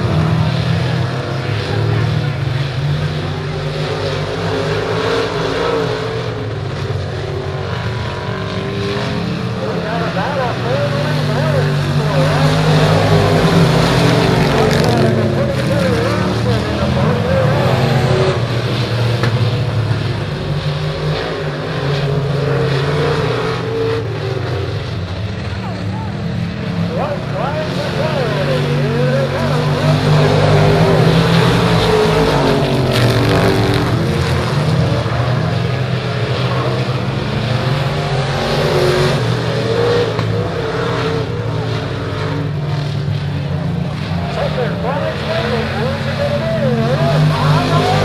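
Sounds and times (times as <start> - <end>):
race car engines droning: 0.0 - 48.0.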